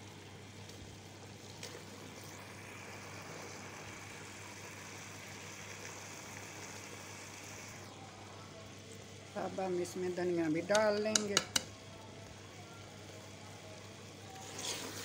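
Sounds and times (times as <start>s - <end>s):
curry sizzling softly: 0.0s - 15.0s.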